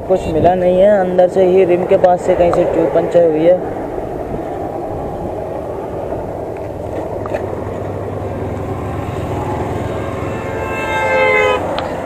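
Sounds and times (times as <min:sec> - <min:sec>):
highway traffic rumble: 0:00.0 - 0:12.0
heavy vehicle droning: 0:00.8 - 0:12.0.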